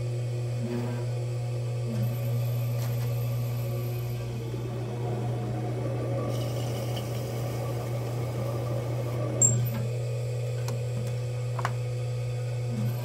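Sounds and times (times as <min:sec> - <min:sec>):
pottery wheel motor hum: 0:00.0 - 0:13.0.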